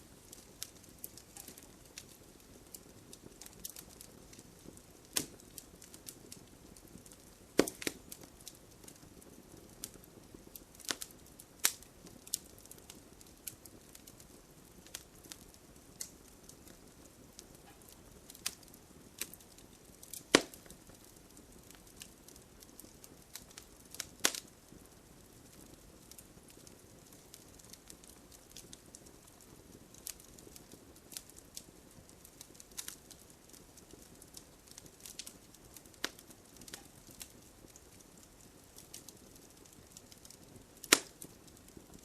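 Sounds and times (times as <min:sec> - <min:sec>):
fire hiss: 0:00.0 - 0:42.0
wood fire pops and snaps: 0:00.0 - 0:42.0.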